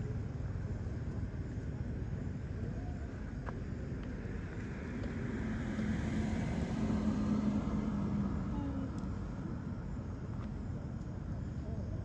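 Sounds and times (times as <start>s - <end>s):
vehicle engine hum passing: 0.0s - 12.0s.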